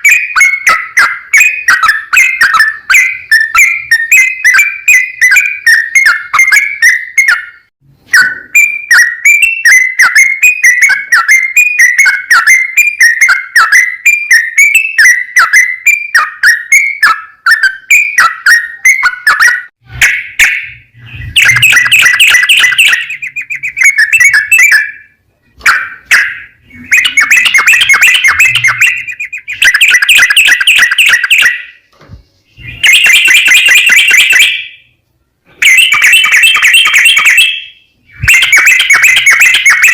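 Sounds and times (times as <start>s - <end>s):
bird singing chirps and trills: 0.0s - 35.0s, 35.6s - 39.9s.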